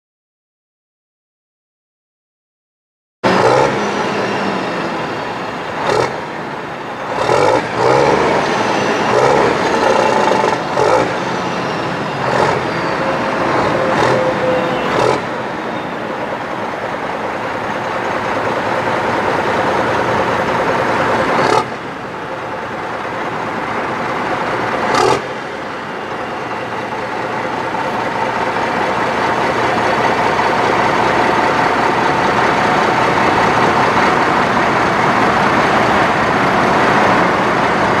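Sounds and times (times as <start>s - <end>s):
truck diesel engine pulling away: 3.2s - 38.0s.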